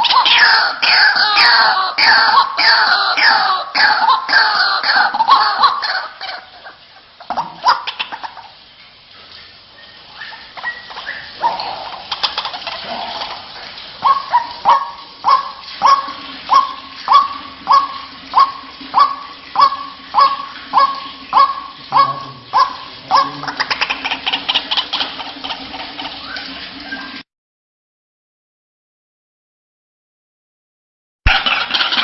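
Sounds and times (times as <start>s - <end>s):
waterhen calling: 0.0s - 27.2s, 31.3s - 32.0s.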